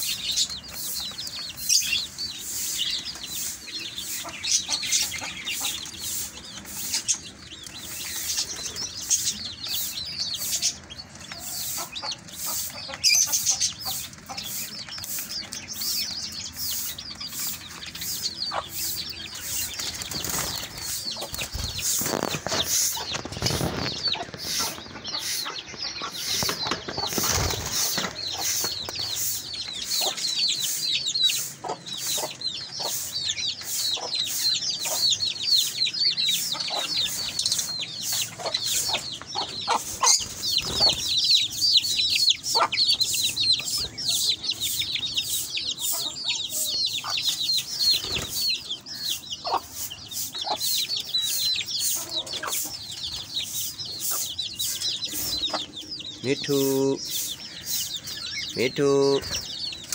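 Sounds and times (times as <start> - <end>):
small parrots chirping: 0.0 - 59.9.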